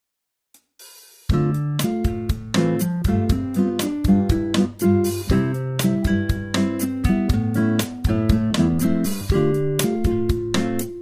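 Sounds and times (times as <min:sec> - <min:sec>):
upbeat guitar music: 0:01.3 - 0:11.0.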